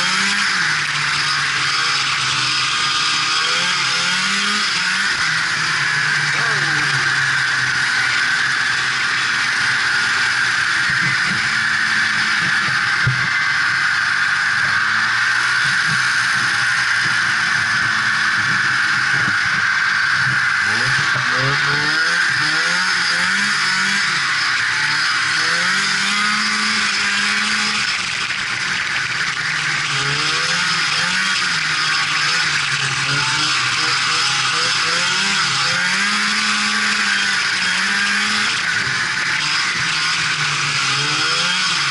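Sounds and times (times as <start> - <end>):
snowmobile engine running: 0.0 - 41.9.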